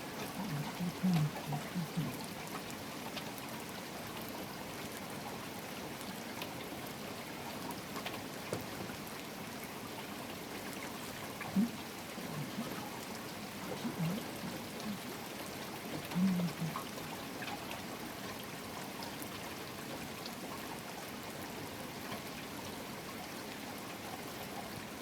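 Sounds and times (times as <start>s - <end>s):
water dripping: 0.0s - 20.6s
running water: 0.0s - 25.0s
steady rainfall: 0.0s - 25.0s.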